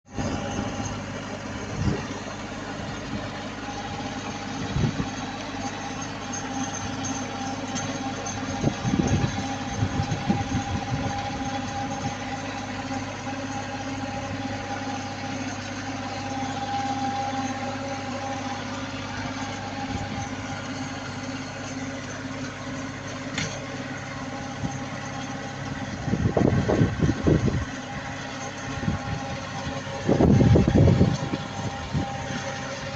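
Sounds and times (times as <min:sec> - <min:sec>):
milling machine engine humming: 0:00.1 - 0:32.9.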